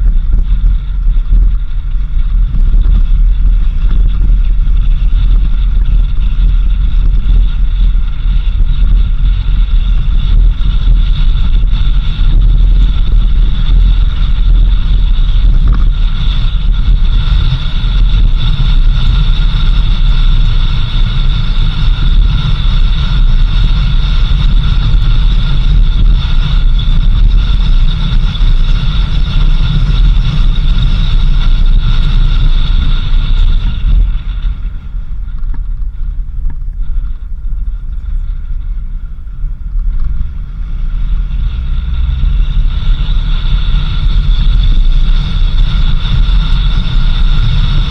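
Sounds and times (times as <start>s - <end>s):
vehicle on dirt road rumbling: 0.0s - 47.9s
wind buffeting microphone: 0.0s - 47.9s.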